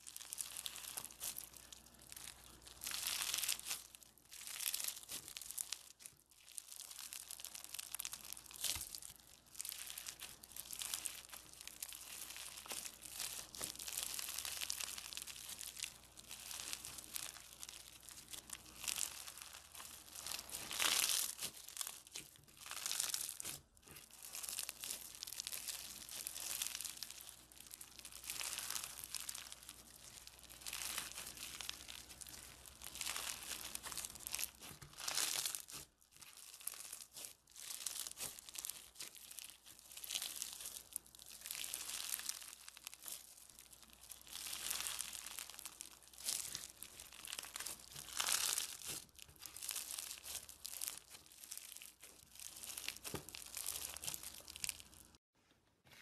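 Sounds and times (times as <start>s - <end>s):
crunchy crackle of squeezed slime: 0.0s - 55.2s.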